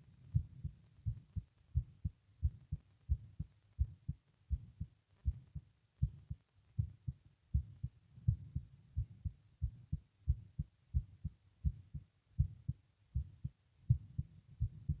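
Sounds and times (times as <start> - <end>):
faint hiss: 0.0 - 15.0
heartbeat thumps: 0.3 - 15.0.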